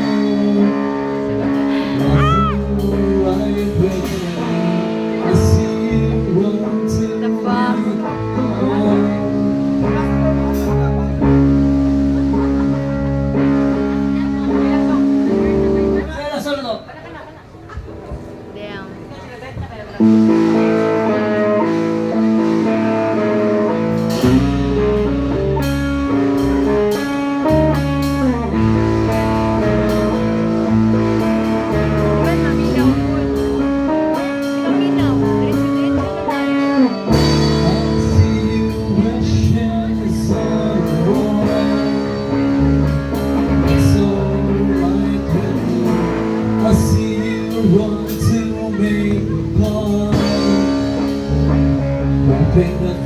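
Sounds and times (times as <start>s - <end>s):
electric guitar: 0.0s - 16.2s, 17.4s - 53.0s
bass line: 0.0s - 16.4s, 20.0s - 53.0s
drums: 0.0s - 53.0s.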